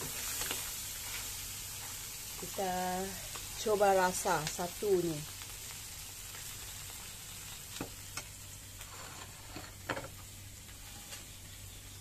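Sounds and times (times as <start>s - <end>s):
crabs sizzling in a wok: 0.0s - 12.0s.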